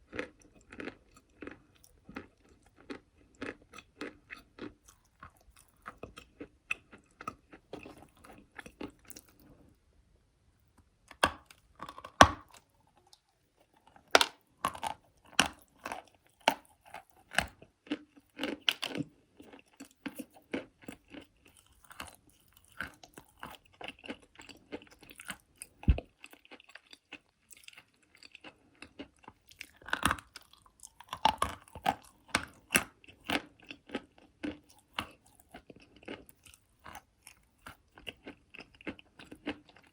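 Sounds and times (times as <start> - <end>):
person chewing crunchy clay: 0.0 - 9.8, 11.1 - 39.9.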